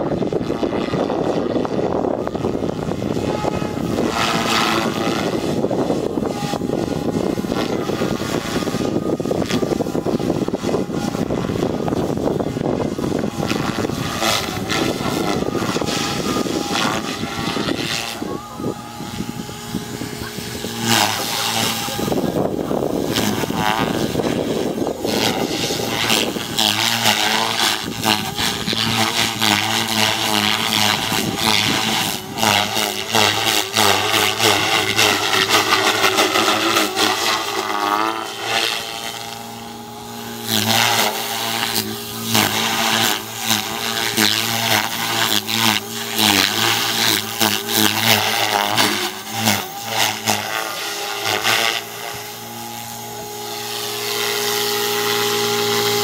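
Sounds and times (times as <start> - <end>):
model helicopter rotor buzz: 0.0 - 56.0.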